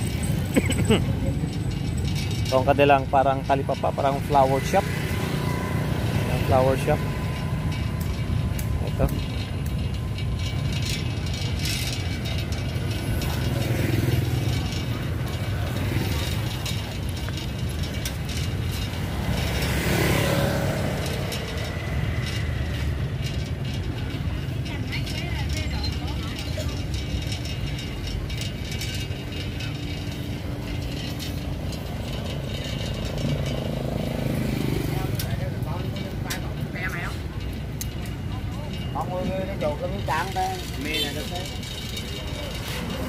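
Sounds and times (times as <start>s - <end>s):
rickshaw rattling and clicking: 0.0s - 43.0s
rickshaw rolling rumble: 0.0s - 43.0s
road noise: 0.0s - 43.0s.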